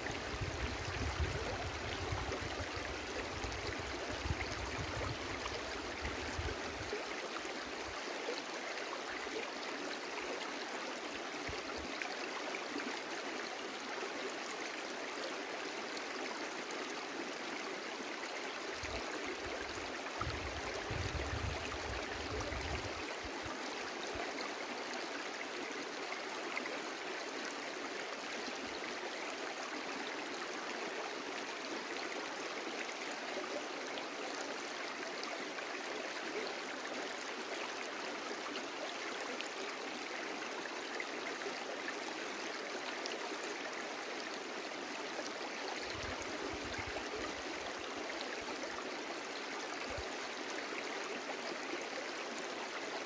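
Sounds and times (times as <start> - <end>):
brook water over stones: 0.0 - 53.0.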